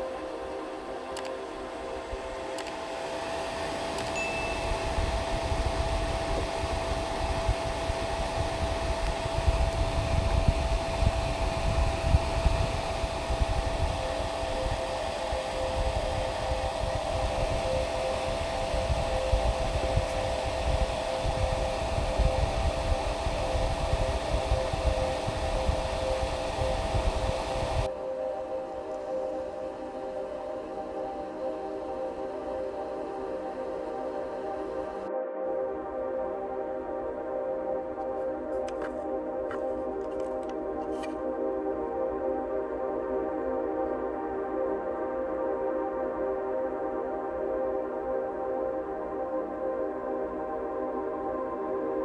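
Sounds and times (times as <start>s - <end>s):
cooling fan whirring: 0.0s - 52.0s.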